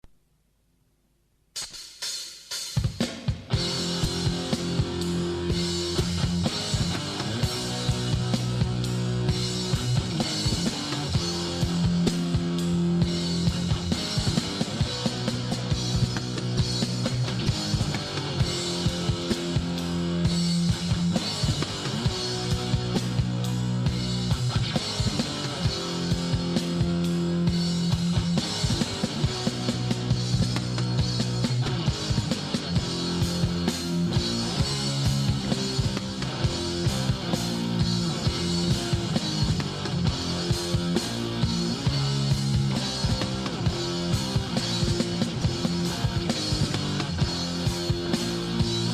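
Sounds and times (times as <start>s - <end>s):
fast drum kit beat: 1.5s - 48.9s
distorted electric guitars: 2.5s - 48.9s.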